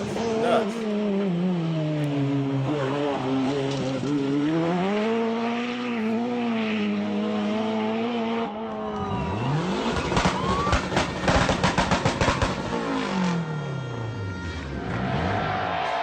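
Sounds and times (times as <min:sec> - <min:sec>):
rally car engine running hard: 0:00.0 - 0:16.0.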